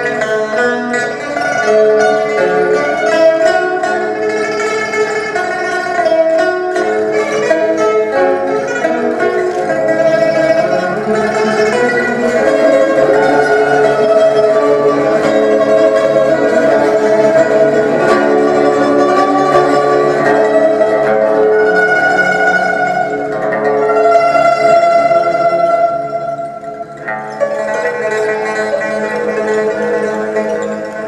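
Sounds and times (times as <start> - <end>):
lutes playing tremolo: 0.0 - 31.0.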